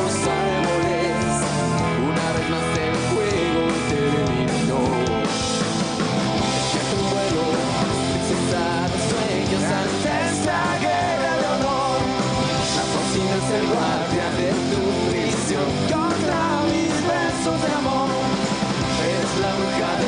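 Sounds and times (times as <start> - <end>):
man singing: 0.0 - 5.4, 6.5 - 20.0
rock band playing live: 0.0 - 20.0.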